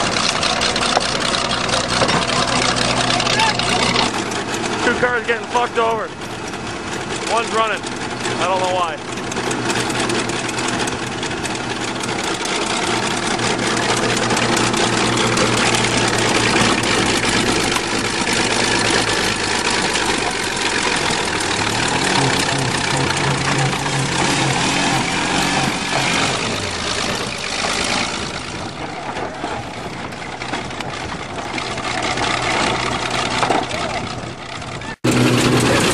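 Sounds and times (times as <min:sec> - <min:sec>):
bulldozer engine drone: 0:00.0 - 0:35.9
car engine revving: 0:00.0 - 0:35.9
cars crushing grinding and scraping: 0:00.0 - 0:35.9.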